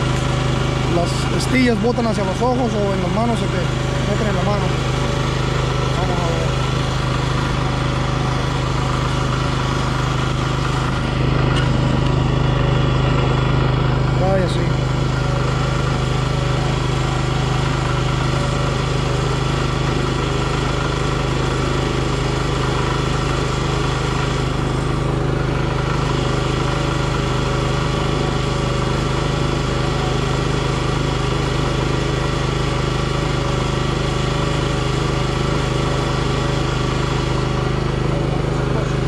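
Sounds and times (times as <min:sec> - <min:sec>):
log splitter engine running: 0:00.0 - 0:39.0.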